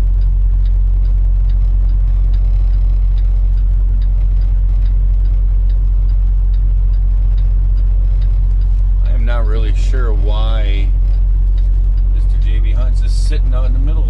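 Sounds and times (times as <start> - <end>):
diesel truck engine rumbling: 0.0 - 14.0
faint even ticking: 0.0 - 14.0.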